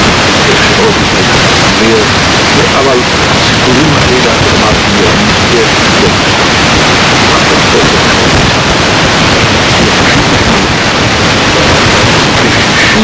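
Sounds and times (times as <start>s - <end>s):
loud recording hiss: 0.0s - 13.0s.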